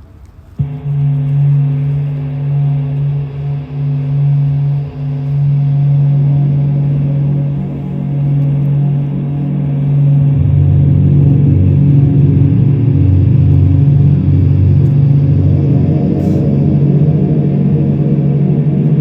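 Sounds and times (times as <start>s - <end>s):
low musical drone: 0.0s - 19.0s.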